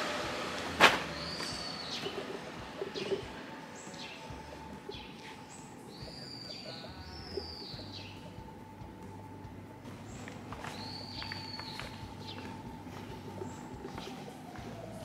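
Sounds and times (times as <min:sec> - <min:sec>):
high falling bird chirps: 0:01.1 - 0:08.4, 0:09.9 - 0:15.0
whistled bird note: 0:01.1 - 0:08.4, 0:10.0 - 0:15.0.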